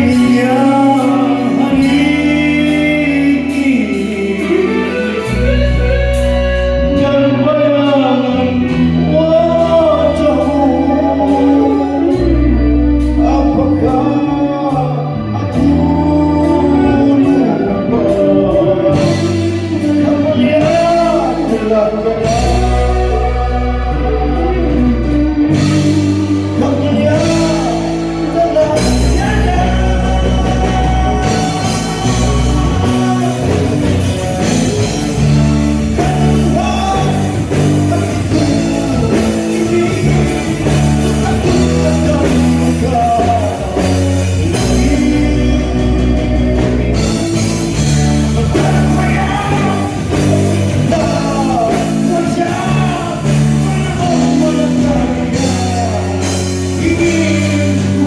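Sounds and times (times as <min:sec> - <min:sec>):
live rock band playing: 0:00.0 - 0:58.0
man singing: 0:00.0 - 0:58.0.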